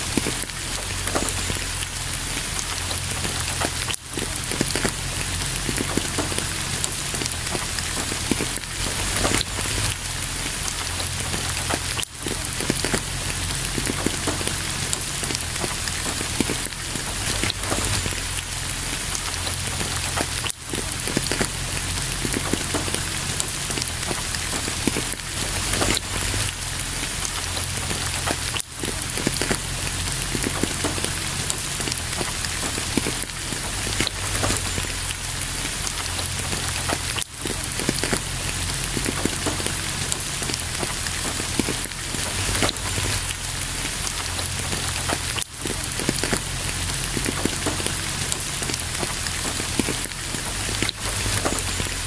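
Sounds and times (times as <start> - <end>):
heavy rain pattering: 0.0 - 52.0.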